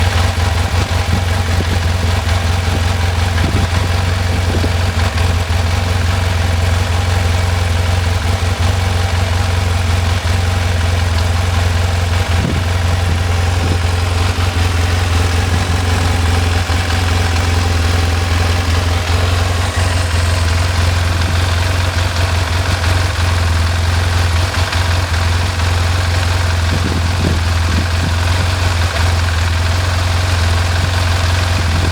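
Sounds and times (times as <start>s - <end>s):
mechanical engine noise: 0.0s - 8.6s, 10.9s - 31.9s
motorcycle engine idling: 0.0s - 31.9s.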